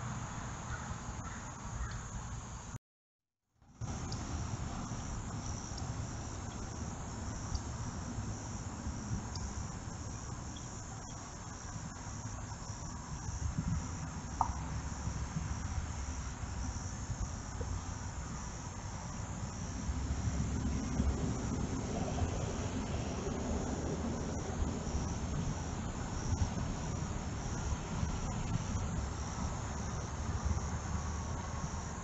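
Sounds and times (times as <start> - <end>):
insects chorus: 0.0 - 2.8, 3.7 - 32.0.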